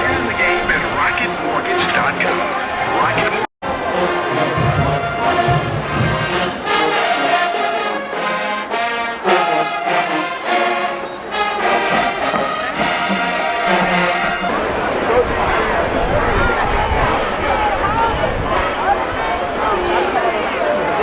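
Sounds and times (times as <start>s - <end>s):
brass band playing chords: 0.0s - 21.0s.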